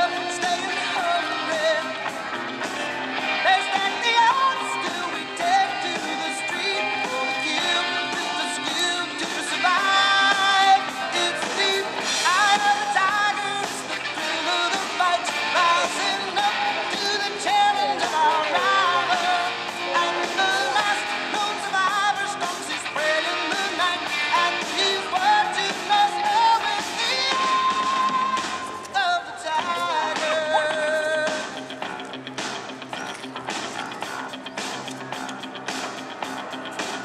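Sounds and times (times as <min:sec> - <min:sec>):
song with lead singer: 0:00.0 - 0:37.0.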